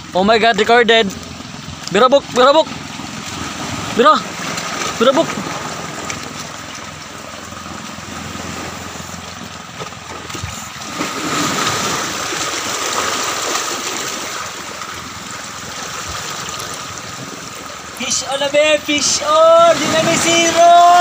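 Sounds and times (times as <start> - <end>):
waves lapping against rocks: 0.0 - 21.0.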